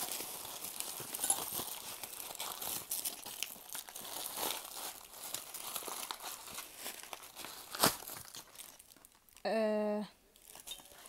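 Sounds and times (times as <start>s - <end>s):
paper packaging crinkling: 0.0s - 9.4s, 10.4s - 11.0s.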